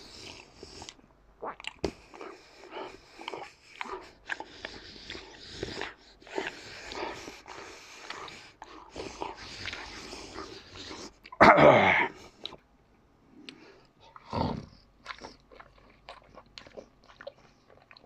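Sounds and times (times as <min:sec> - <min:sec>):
chewing and crunching pizza: 0:00.0 - 0:11.4, 0:13.5 - 0:18.0.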